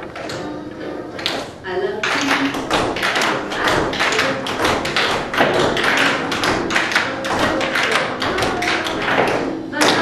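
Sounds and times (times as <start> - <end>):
faint music: 0.0 - 10.0
tap shoes on wooden floor: 1.2 - 10.0.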